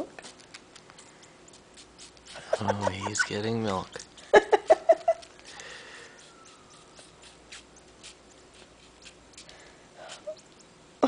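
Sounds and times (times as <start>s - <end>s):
kitten suckling wet clicks: 0.2s - 10.8s.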